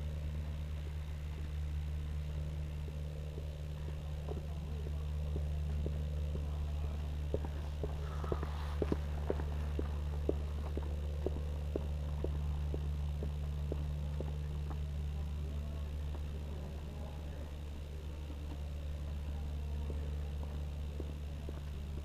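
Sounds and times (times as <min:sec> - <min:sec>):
motorcycle engine and road drone: 0:00.0 - 0:22.0.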